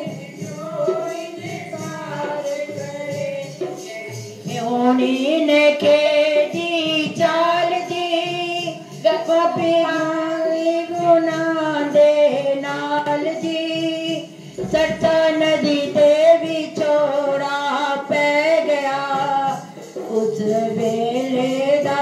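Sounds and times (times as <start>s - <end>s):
girls singing devotional song: 0.0s - 22.0s.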